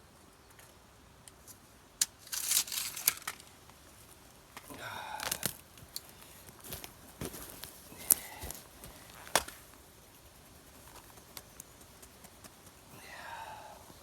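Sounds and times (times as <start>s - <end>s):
rustling and crinkling: 0.6s - 13.0s.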